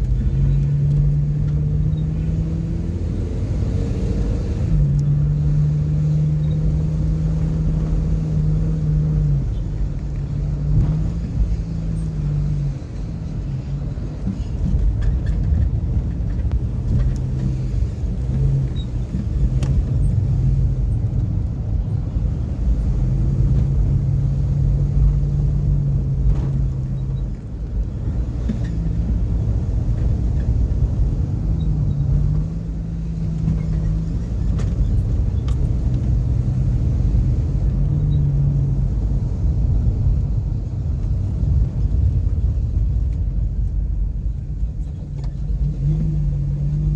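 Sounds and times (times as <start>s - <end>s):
car engine accelerating: 0.0s - 46.9s
road noise: 0.0s - 46.9s.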